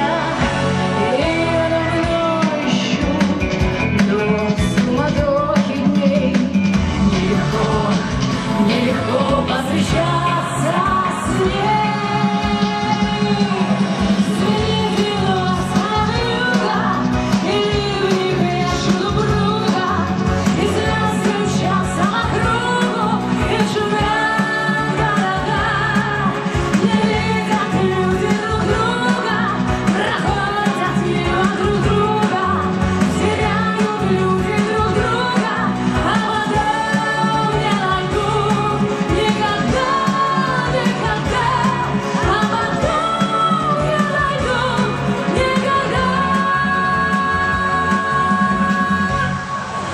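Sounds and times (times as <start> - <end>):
backing track with steady beat: 0.0 - 49.9
woman singing pop song: 0.0 - 49.9.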